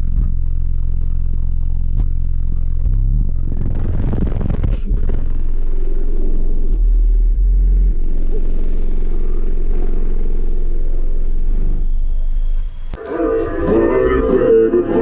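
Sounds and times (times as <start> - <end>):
deep loud bass from subwoofers: 0.0 - 15.0.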